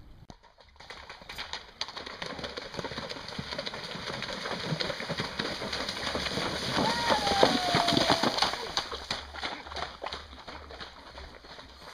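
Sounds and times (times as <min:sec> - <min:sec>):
horse hooves splashing through water: 0:00.4 - 0:11.9.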